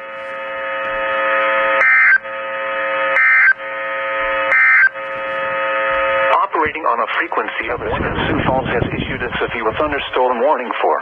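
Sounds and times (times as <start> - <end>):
steady buzzing tone: 0.0 - 10.5.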